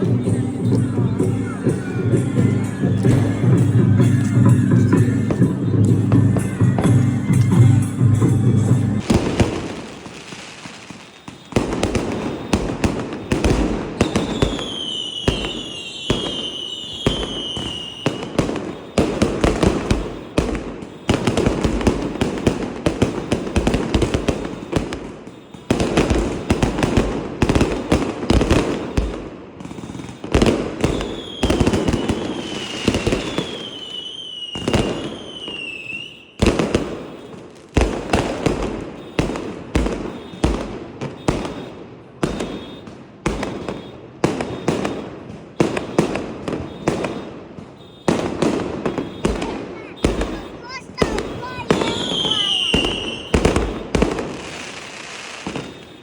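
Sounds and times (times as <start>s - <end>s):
firecrackers cracking and banging: 0.0s - 56.0s
whistling fireworks: 0.0s - 56.0s.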